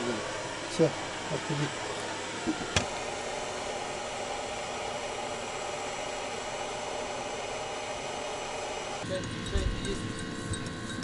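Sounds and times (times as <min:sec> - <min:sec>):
blower whooshing: 0:00.0 - 0:11.0.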